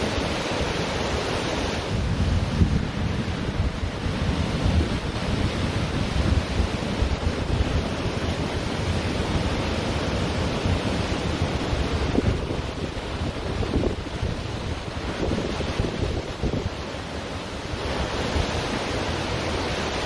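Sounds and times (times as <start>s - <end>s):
ocean waves washing on beach: 0.0s - 20.0s
wind buffeting microphone: 0.0s - 20.0s.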